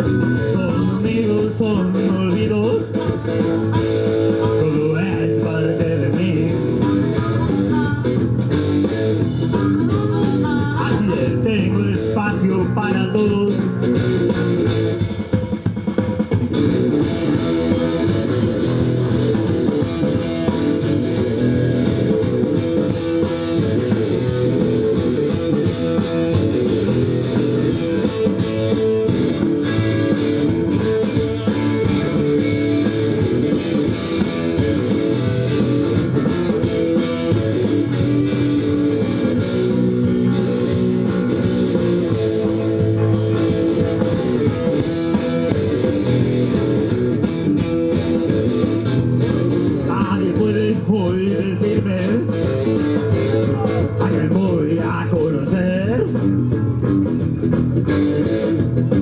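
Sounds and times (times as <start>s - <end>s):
blues-rock band playing: 0.0s - 59.0s.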